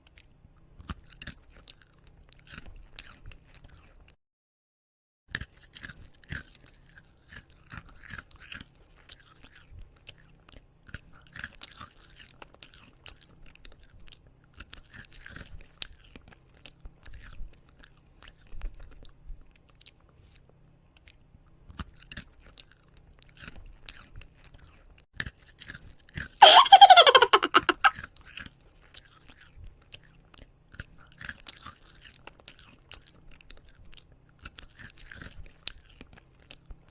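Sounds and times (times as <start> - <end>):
chewing and crunching food: 0.0 - 4.2, 5.3 - 26.4, 28.0 - 36.9.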